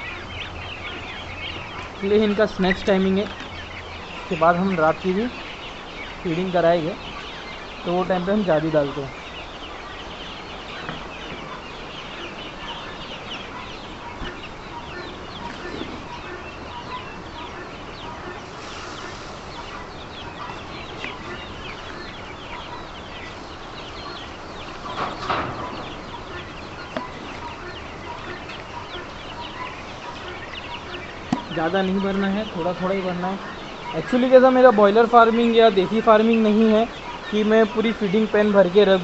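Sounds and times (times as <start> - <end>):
chicks peeping: 0.0 - 39.0.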